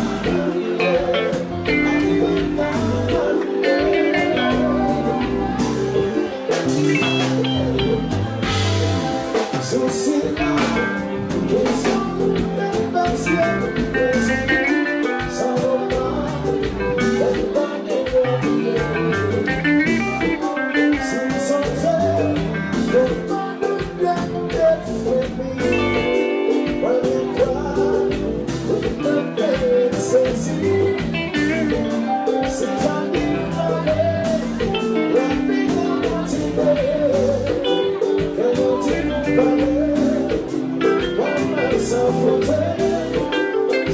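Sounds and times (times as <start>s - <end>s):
band playing live: 0.0s - 43.9s
man singing: 0.0s - 43.9s.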